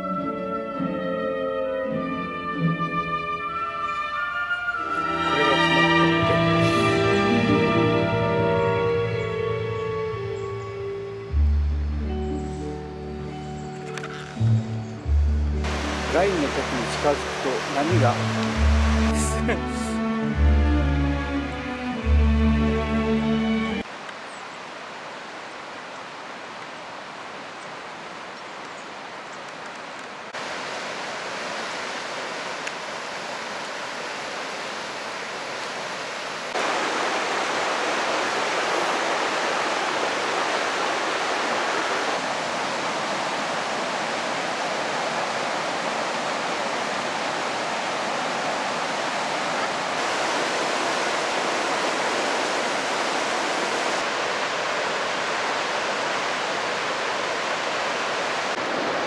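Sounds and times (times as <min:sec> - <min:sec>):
waterfall rushing: 0:02.1 - 0:24.0, 0:30.3 - 0:59.0.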